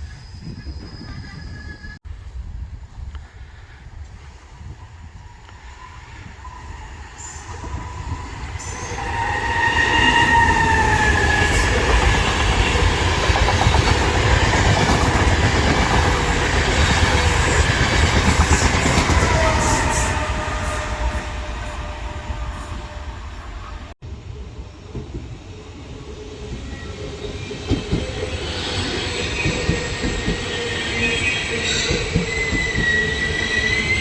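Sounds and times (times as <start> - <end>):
electric train passing at speed: 0.0 - 34.0.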